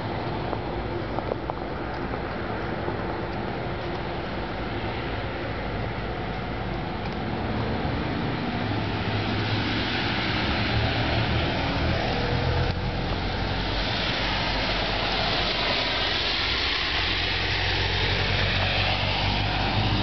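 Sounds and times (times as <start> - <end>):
traffic on wet street: 0.0 - 20.0.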